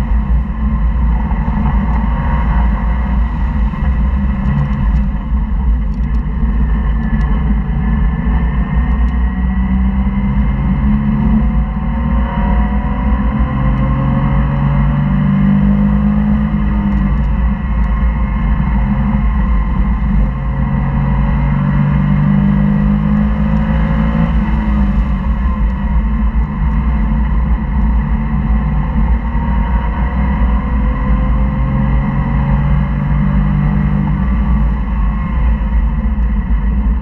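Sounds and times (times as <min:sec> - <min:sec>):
car engine revving: 0:00.0 - 0:37.0
wind and tyre noise: 0:00.0 - 0:37.0.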